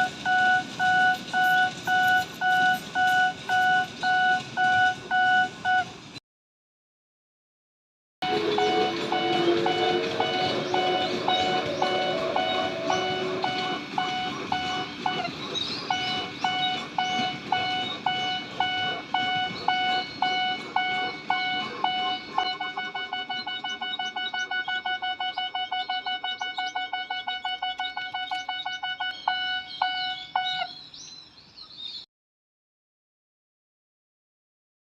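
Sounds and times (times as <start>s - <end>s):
electronic crossing warning bell: 0.0s - 6.0s, 8.2s - 30.7s.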